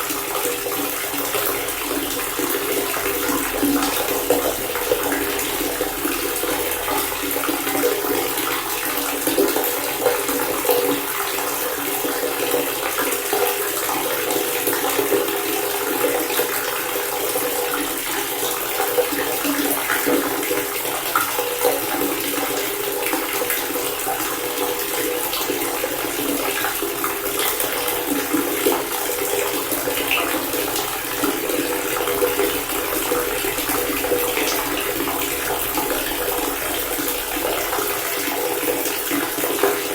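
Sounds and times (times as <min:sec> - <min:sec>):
water pouring from a faucet: 0:00.0 - 0:39.9.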